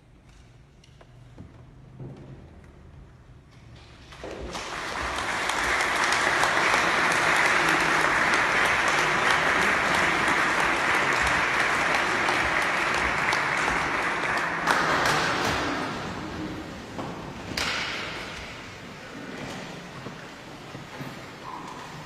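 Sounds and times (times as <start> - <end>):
audience applauding: 4.3 - 22.0.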